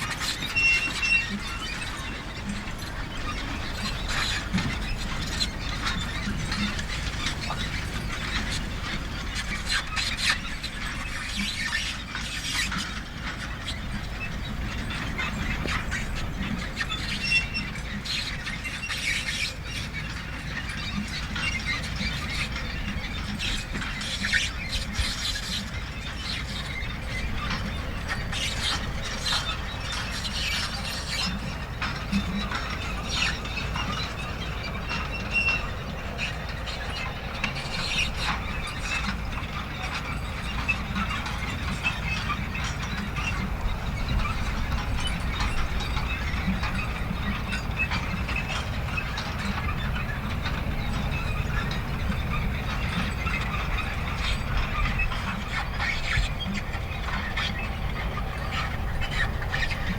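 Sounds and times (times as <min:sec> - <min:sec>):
low machine rumble: 0:00.0 - 0:59.9
machine chains clanking and squeaking: 0:00.0 - 0:59.9.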